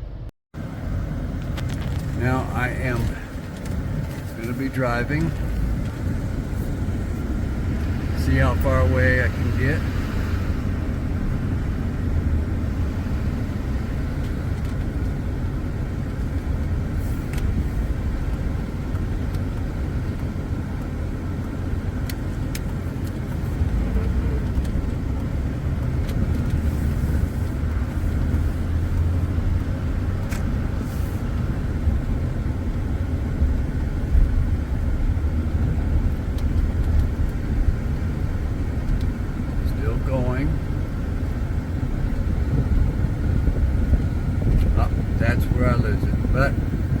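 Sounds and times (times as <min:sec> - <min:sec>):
engine and road rumble: 0:00.0 - 0:47.0.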